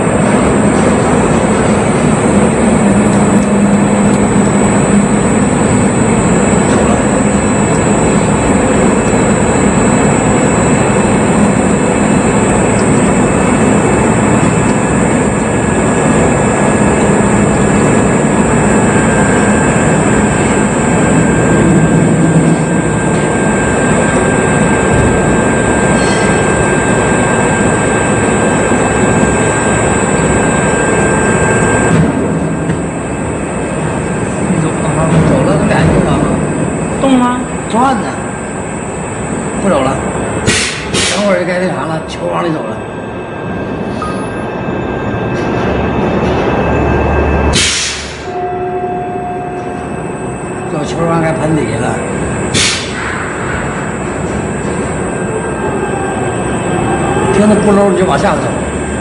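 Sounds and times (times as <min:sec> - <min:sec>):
pumped fluid roaring: 0:00.0 - 0:49.0, 0:49.6 - 0:59.0
thin high whine: 0:00.0 - 0:59.0.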